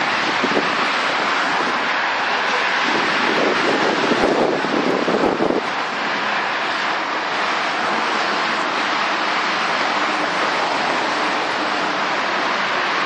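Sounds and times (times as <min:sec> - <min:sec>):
freeway traffic: 0:00.0 - 0:13.0.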